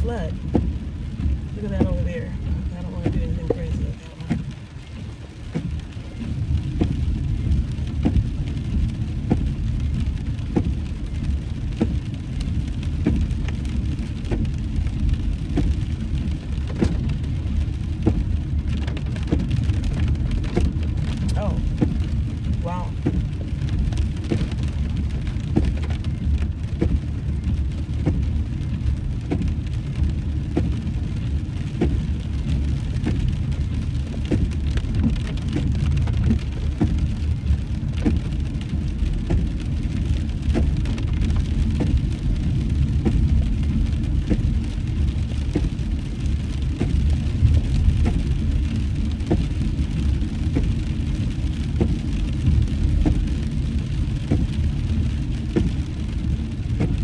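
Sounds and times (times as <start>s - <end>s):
car road and engine rumble: 0.0s - 57.0s
raindrops ticking on car: 0.0s - 57.0s.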